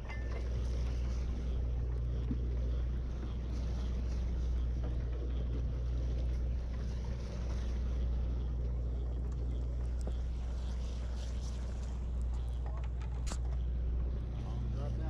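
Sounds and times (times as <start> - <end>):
boat diesel engines humming: 0.0 - 15.0.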